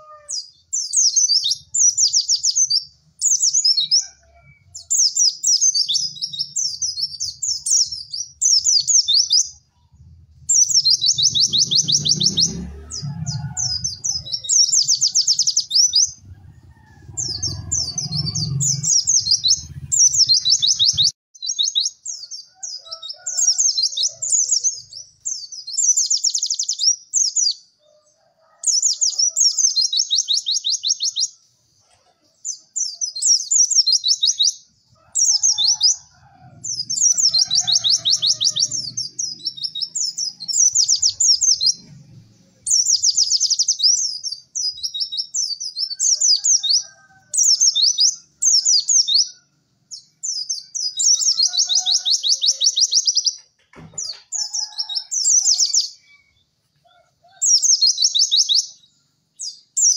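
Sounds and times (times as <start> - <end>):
birds singing high chattering trills: 0.0 - 59.9.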